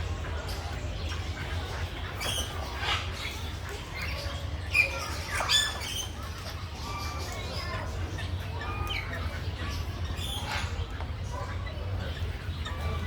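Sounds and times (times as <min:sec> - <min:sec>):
birds squawking and chirping: 0:00.1 - 0:13.0.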